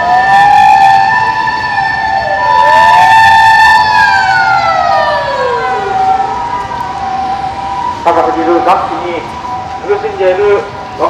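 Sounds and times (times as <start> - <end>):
steady high siren tone: 0.0 - 11.0
wailing siren: 0.0 - 11.0.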